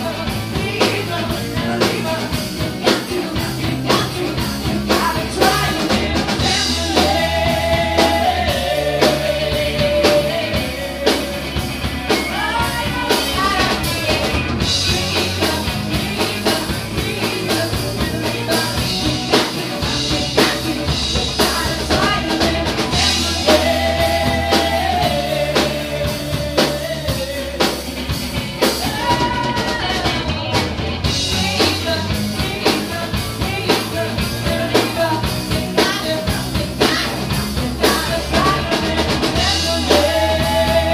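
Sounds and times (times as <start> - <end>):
bass line: 0.0 - 40.9
drum kit: 0.0 - 40.9
electric guitar: 0.0 - 40.9
woman singing: 0.0 - 40.9.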